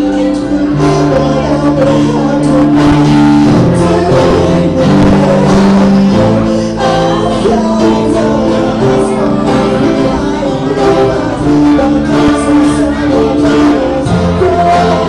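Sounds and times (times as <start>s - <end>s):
band playing with singing: 0.0s - 15.0s.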